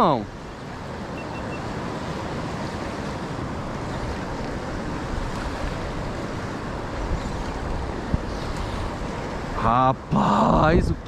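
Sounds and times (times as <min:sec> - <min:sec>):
choppy water slapping a kayak: 0:00.0 - 0:11.0
wind on microphone: 0:00.7 - 0:09.6.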